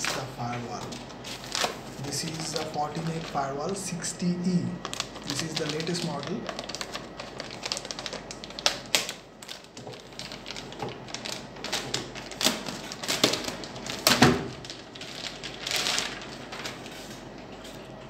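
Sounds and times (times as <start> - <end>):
plastic bag crinkling: 0.0 - 3.7, 4.8 - 17.9.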